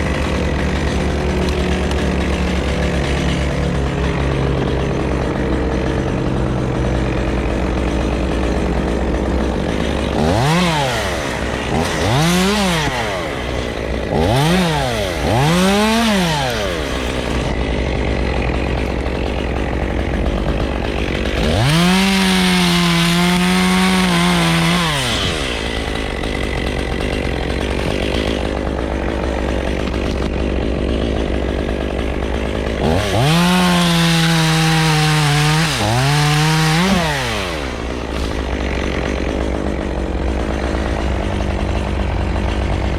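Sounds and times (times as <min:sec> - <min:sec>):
engine idling: 0:00.0 - 0:21.8, 0:24.8 - 0:33.3, 0:36.9 - 0:42.9
chainsaw revving and cutting wood: 0:00.0 - 0:42.9.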